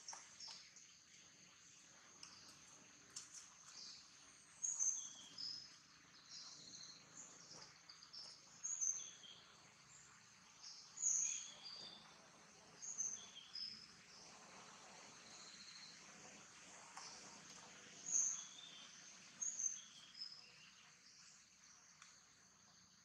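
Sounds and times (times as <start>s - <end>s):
birds chirping: 0.0s - 22.2s
faint outdoor hiss: 0.0s - 23.0s.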